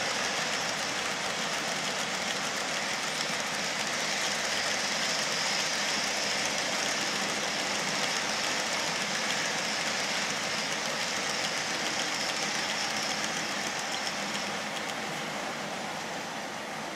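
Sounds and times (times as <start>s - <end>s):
model train wagons rumbling on metal rails: 0.0s - 15.0s.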